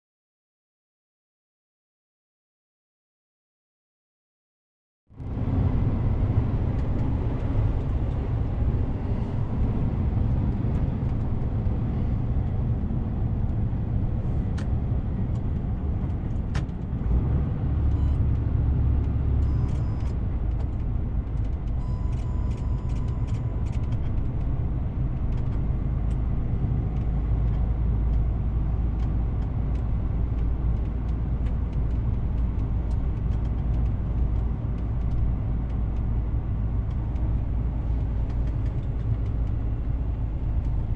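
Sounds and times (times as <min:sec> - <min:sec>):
truck engine rumbling: 0:05.2 - 0:40.9.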